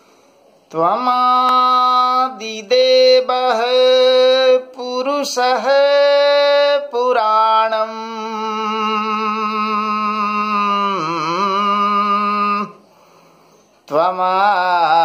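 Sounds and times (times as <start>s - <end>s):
man chanting a prayer: 0.7s - 12.8s, 13.9s - 15.0s.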